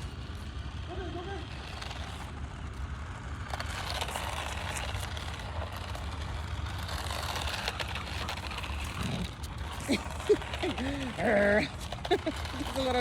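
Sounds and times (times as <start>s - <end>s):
toy car motor whirring: 0.0s - 13.0s.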